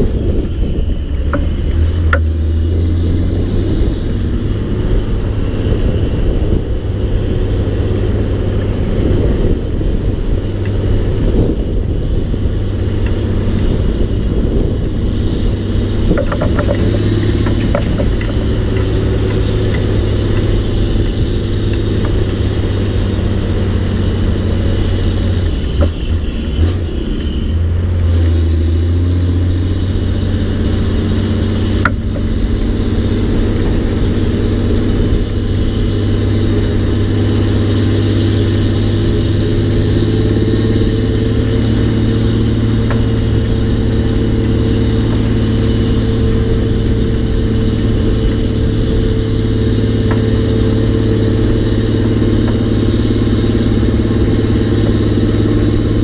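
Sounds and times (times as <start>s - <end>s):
diesel truck engine under load: 0.0s - 56.0s.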